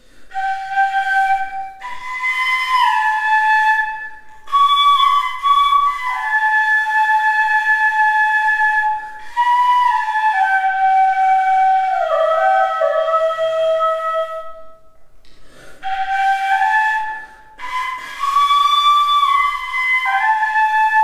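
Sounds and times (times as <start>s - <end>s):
slow solo flute melody: 0.2s - 15.2s, 15.8s - 21.0s.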